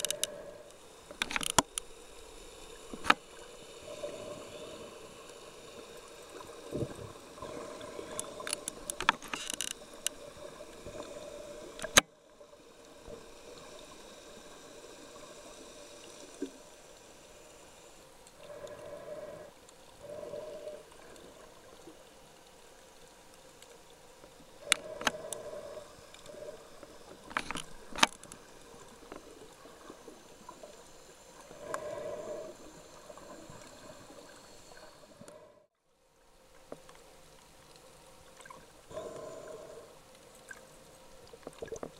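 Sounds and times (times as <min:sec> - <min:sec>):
underwater watery hiss: 0:00.0 - 0:35.7, 0:38.5 - 0:41.7.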